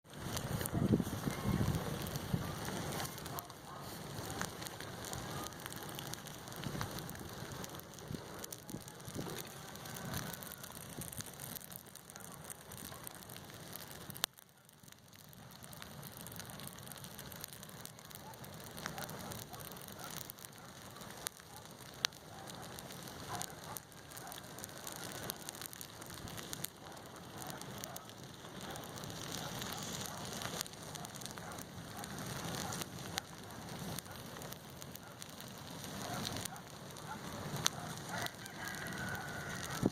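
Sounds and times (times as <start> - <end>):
bonfire flames hissing: 0.0 - 39.9
fire crackling and popping: 0.0 - 39.9
sharp crack of fire: 0.0 - 39.9.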